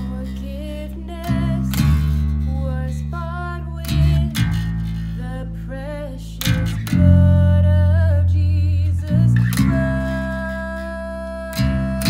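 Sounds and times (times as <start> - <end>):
electric bass low notes: 0.0 - 12.0
person singing: 0.0 - 12.0
strummed guitar chords: 0.0 - 12.0.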